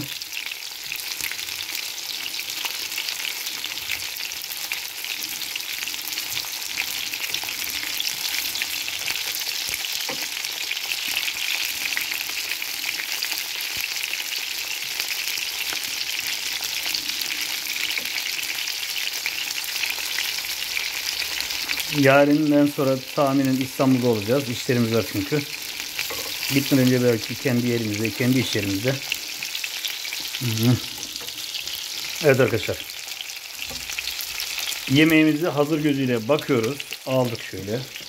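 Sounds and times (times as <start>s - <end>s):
patties sizzling in oil: 0.0s - 38.0s.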